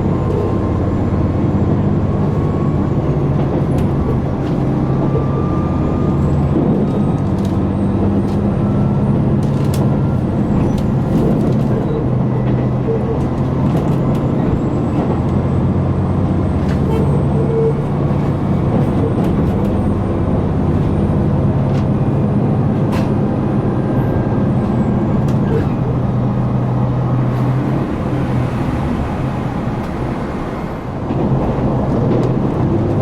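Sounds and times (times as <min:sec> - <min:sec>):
diesel railcar engine running: 0:00.0 - 0:33.0
train running noise: 0:00.0 - 0:33.0.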